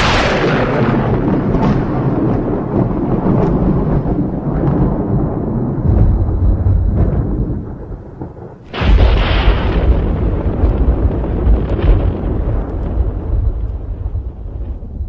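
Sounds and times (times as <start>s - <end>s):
close thunderclap: 0.0s - 15.0s
thunder rumbling: 0.0s - 15.0s.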